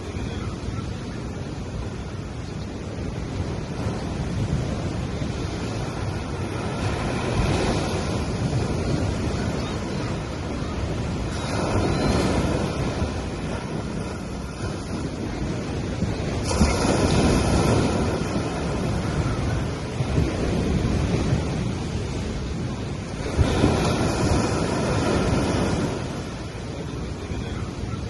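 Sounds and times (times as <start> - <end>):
sea waves washing on beach: 0.0 - 28.0.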